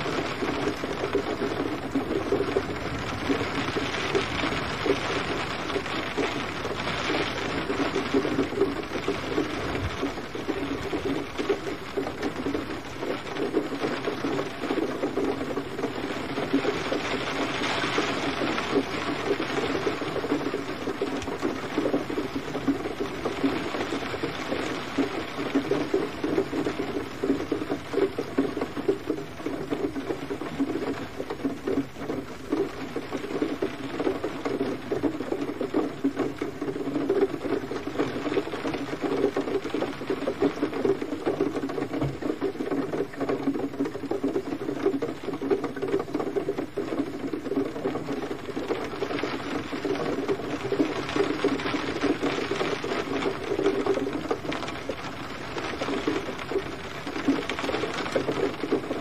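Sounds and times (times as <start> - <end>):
gentle rain patter: 0.0 - 59.0.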